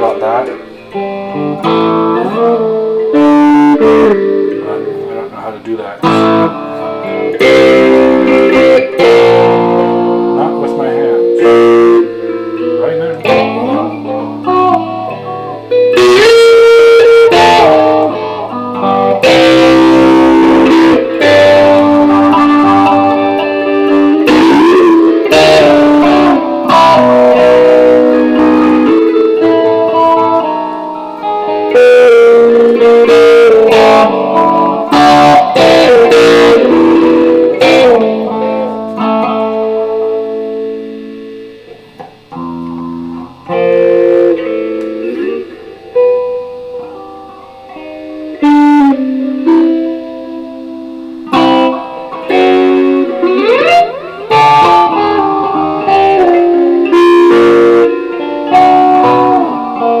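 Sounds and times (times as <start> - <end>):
electric guitar playing: 0.0 - 60.0.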